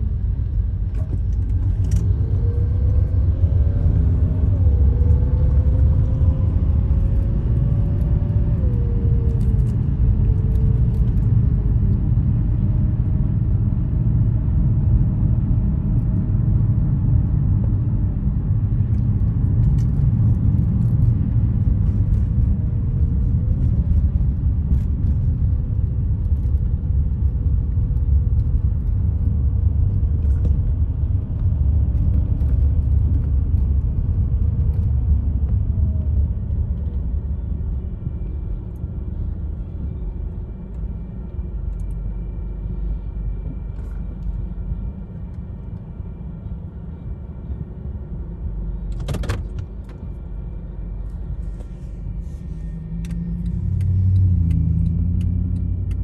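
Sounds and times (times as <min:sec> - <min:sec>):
faint hum: 0:00.0 - 0:56.0
road and engine rumble: 0:00.0 - 0:56.0.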